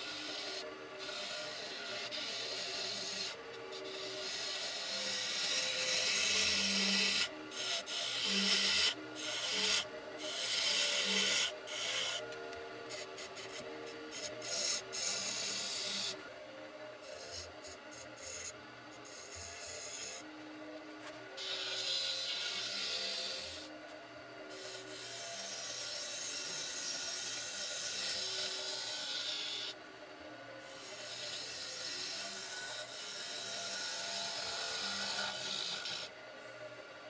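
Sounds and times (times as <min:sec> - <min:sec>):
lathe tool scraping wood: 0:00.0 - 0:12.3, 0:12.9 - 0:16.2, 0:17.0 - 0:20.2, 0:21.0 - 0:23.7, 0:24.5 - 0:29.7, 0:30.7 - 0:36.1
lathe hum: 0:00.0 - 0:37.0.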